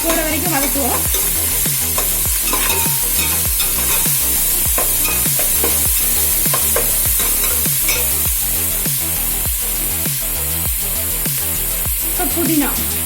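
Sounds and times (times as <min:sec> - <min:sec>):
background music beat: 0:00.0 - 0:13.0
onions sizzling in hot oil: 0:00.0 - 0:13.0.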